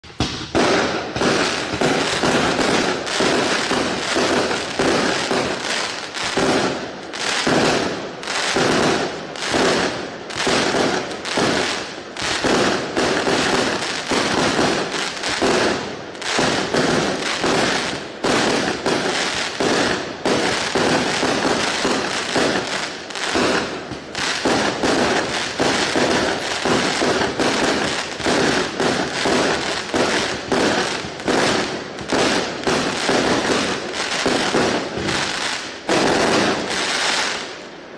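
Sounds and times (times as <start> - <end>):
fireworks launches and bursts: 0.0 - 37.9.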